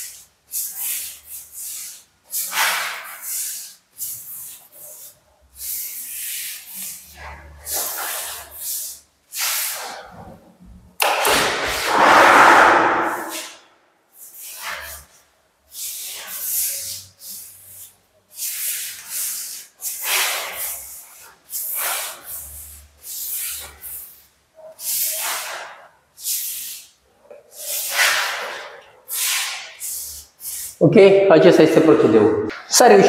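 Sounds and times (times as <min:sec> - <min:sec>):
paint brush swishing on wall: 0:00.0 - 0:10.4, 0:11.0 - 0:30.8.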